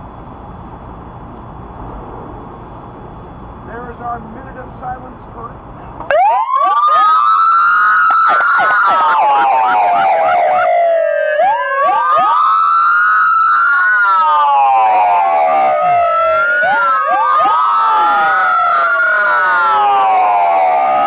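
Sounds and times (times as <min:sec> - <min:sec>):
sirens wailing: 0:00.0 - 0:21.0.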